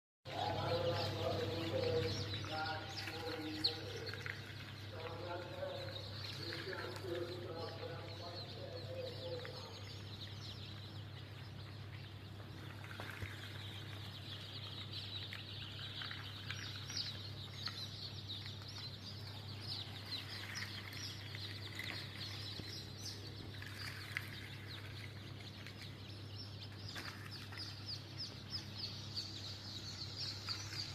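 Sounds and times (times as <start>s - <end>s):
chicks peeping: 0.3s - 30.9s.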